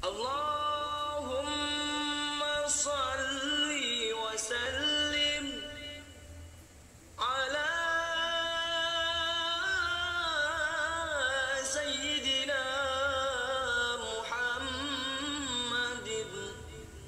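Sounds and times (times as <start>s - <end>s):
person singing devotional chant: 0.0s - 6.5s, 7.2s - 17.0s.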